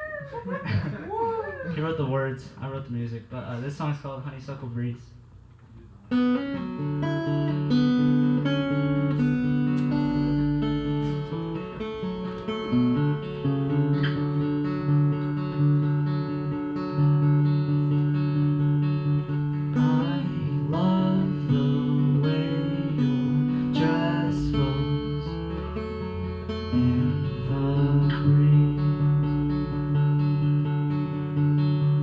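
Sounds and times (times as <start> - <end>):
acoustic guitar chords: 6.1 - 32.0.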